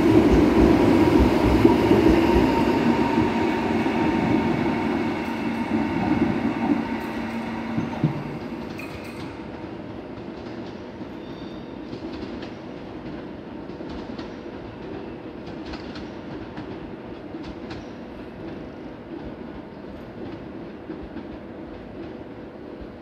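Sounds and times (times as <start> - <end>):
train rail rumble: 0.0 - 23.0.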